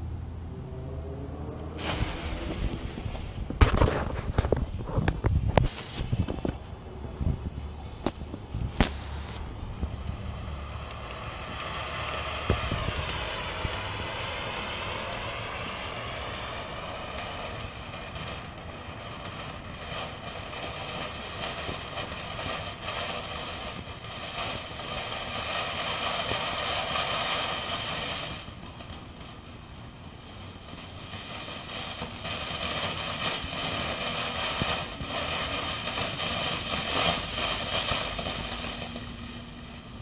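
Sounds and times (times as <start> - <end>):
firework fountain hissing: 0.0 - 40.0
firework cracks: 1.5 - 40.0.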